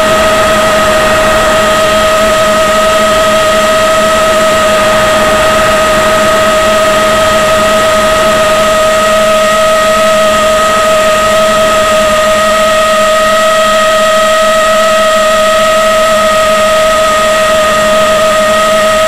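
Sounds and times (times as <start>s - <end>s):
model plane motor whine: 0.0s - 19.0s.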